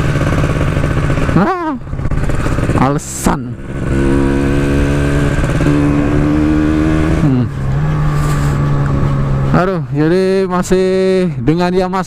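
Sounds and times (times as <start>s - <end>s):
two-stroke motorcycle engine: 0.0s - 11.2s.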